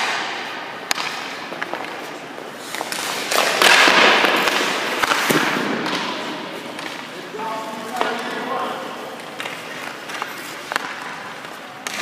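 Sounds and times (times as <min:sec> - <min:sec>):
stick and puck knocks: 0:00.0 - 0:07.1, 0:09.2 - 0:12.0
skate blades scraping ice: 0:00.0 - 0:12.0.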